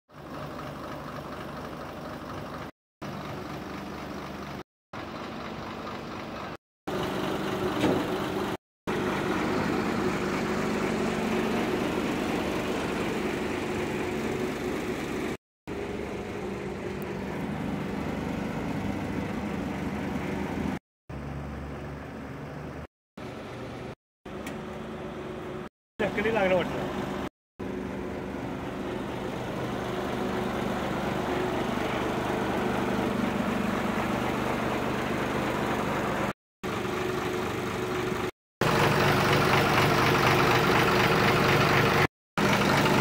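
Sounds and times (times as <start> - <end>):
truck diesel engine idling: 0.1 - 20.6, 24.9 - 43.0.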